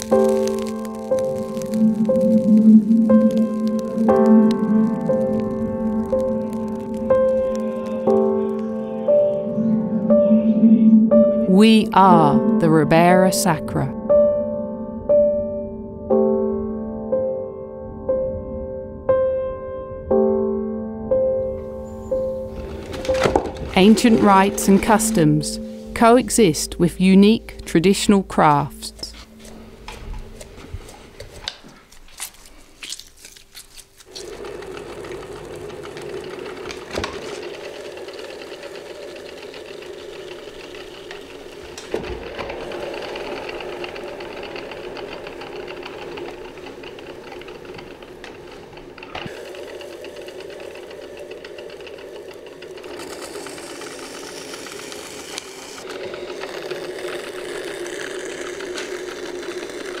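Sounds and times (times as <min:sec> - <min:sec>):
potter's wheel motor hum: 0:00.0 - 0:14.0, 0:21.6 - 0:31.4, 0:34.0 - 1:00.0.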